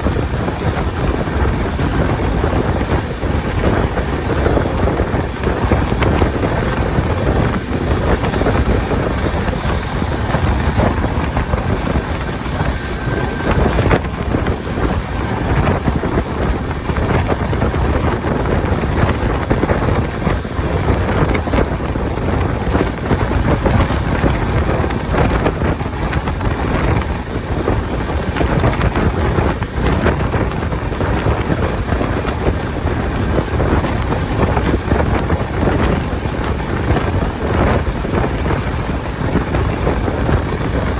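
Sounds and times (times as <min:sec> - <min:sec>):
train rumbling: 0:00.0 - 0:40.9
wind buffeting microphone: 0:00.0 - 0:40.9.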